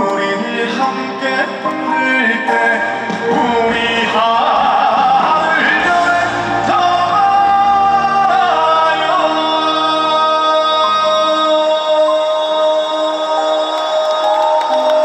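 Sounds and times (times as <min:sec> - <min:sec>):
band accompaniment: 0:00.0 - 0:15.0
man singing: 0:00.0 - 0:15.0.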